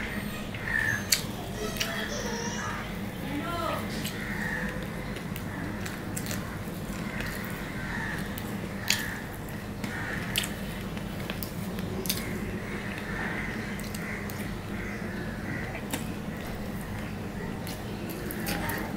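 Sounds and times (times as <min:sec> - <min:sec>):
steady low hum: 0:00.0 - 0:18.9
man chewing food: 0:00.6 - 0:03.2, 0:03.9 - 0:18.9.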